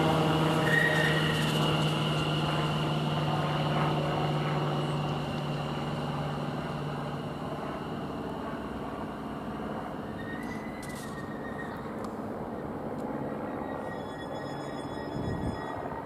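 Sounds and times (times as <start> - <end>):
train high whine: 0.0 - 16.0
train low electric hum: 0.0 - 16.0.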